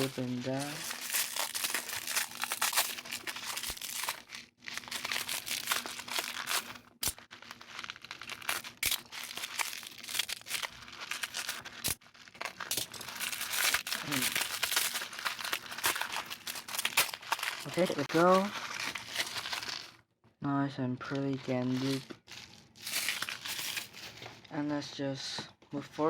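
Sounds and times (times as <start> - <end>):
packaging crinkling and tearing: 0.0 - 20.0, 21.0 - 24.5.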